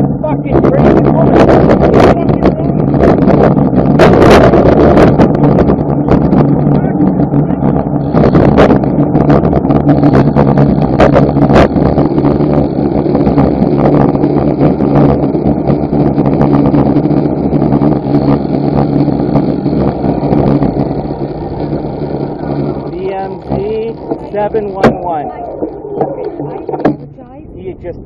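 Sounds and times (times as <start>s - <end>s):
vehicle engine running: 0.0s - 28.0s
wind buffeting microphone: 0.0s - 28.0s.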